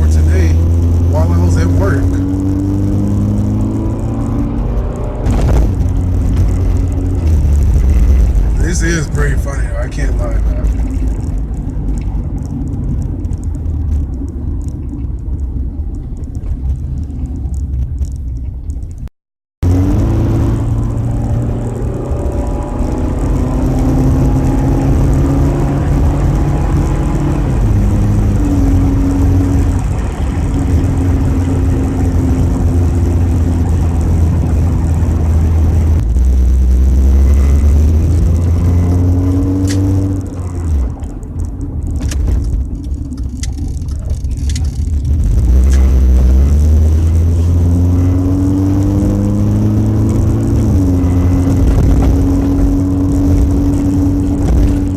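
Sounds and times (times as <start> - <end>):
car engine and leaking exhaust droning: 0.0 - 54.9.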